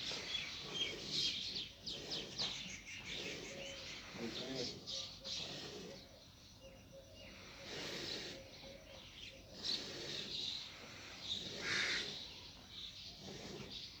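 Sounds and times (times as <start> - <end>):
birds chirping: 0.0 - 14.0
outdoor background noise: 0.0 - 14.0.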